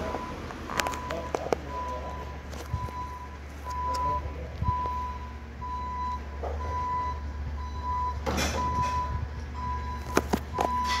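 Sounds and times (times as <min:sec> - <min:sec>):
diesel engine hum: 0:00.0 - 0:11.0
truck reverse alarm beeping: 0:00.0 - 0:11.0.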